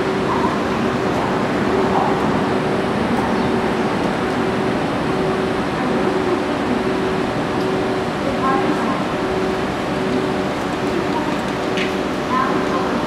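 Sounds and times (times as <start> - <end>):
electric locomotive humming: 0.0 - 13.0.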